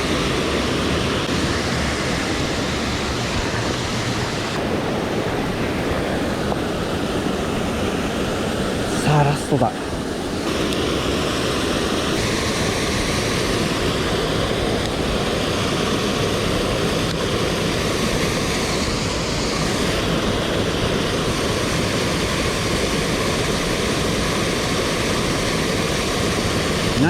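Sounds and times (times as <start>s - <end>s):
stream rushing: 0.0s - 27.0s.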